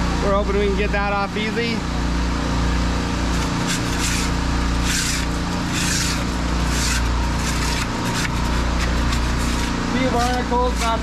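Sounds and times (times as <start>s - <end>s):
pressure washer drone: 0.0s - 11.0s.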